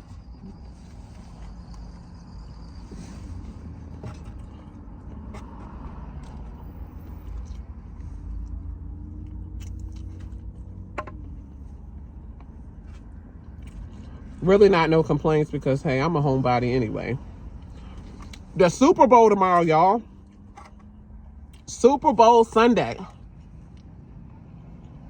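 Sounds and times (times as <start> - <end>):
car idling: 0.0 - 24.5.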